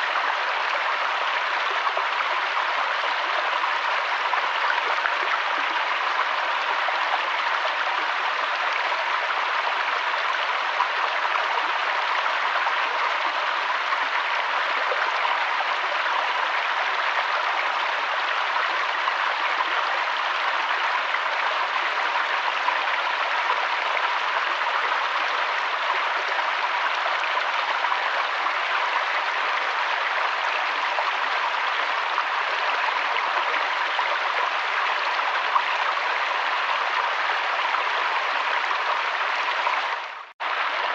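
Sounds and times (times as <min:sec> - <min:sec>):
river water flowing over stones: 0:00.0 - 0:40.9.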